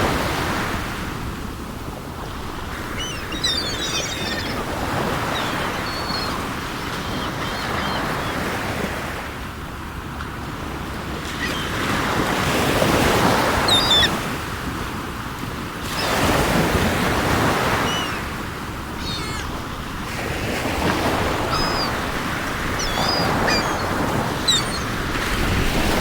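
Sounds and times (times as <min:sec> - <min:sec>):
sea surf washing in: 0:00.0 - 0:26.0
seagulls calling: 0:02.2 - 0:09.6, 0:10.8 - 0:14.8, 0:15.7 - 0:26.0.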